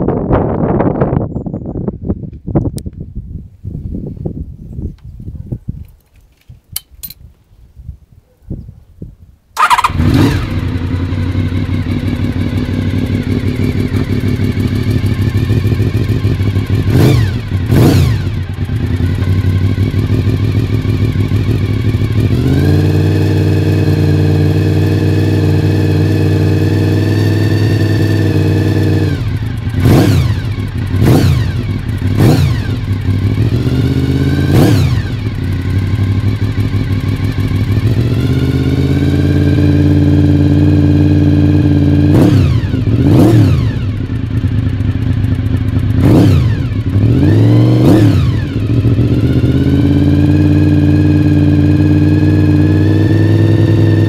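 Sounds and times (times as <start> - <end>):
motorcycle engine revving: 9.6 - 54.0.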